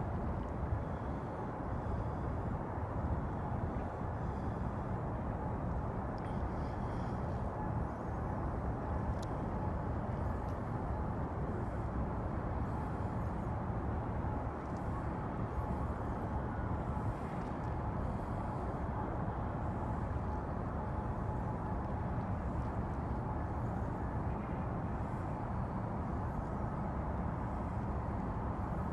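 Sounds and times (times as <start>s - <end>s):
faint steady hum: 0.0s - 28.9s
low harbour rumble: 0.0s - 28.9s.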